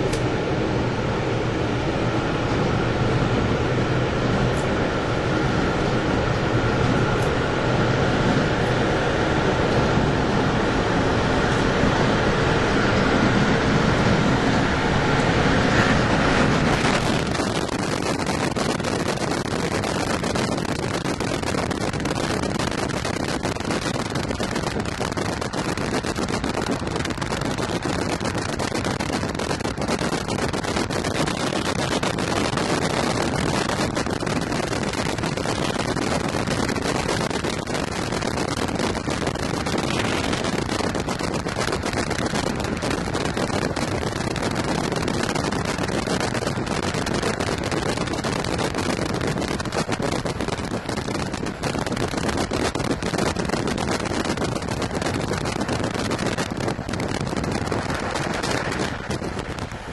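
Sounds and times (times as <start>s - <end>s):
moving train running noise: 0.0s - 59.9s
wind rushing at train window: 0.0s - 59.9s.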